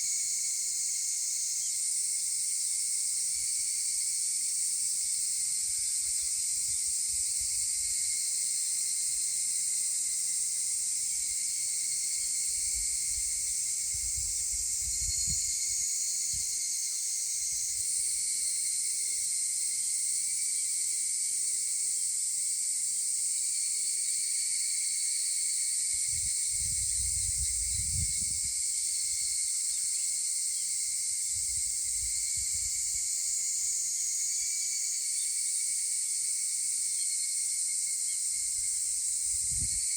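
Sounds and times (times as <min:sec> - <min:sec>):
chorus of cicadas: 0:00.0 - 0:39.9.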